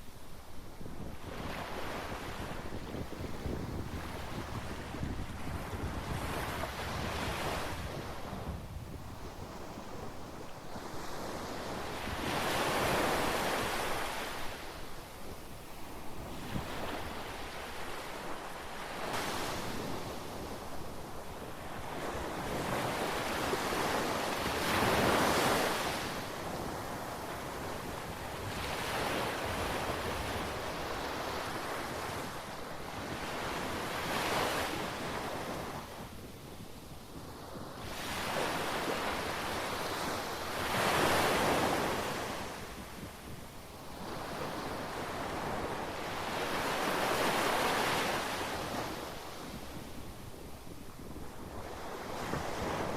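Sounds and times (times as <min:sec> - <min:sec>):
waves breaking on shore: 0:00.0 - 0:36.2, 0:37.2 - 0:52.9
wind on microphone: 0:00.3 - 0:52.9.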